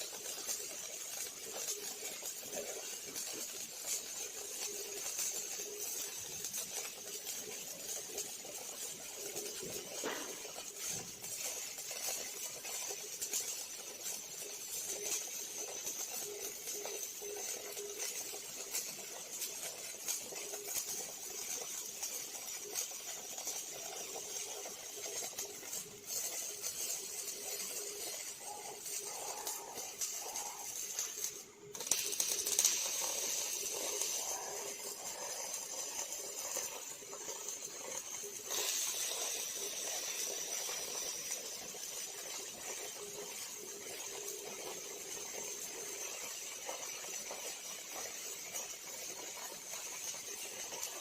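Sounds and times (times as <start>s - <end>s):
welding arc crackling: 0.0s - 51.0s.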